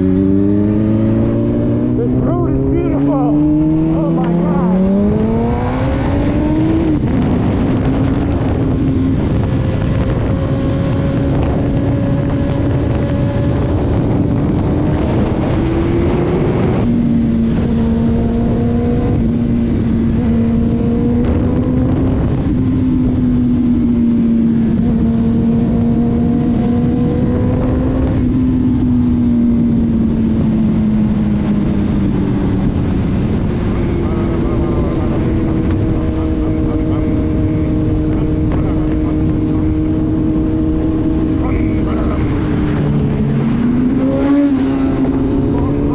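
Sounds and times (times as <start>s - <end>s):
car engine: 0.0s - 45.9s
road noise inside car: 0.0s - 45.9s.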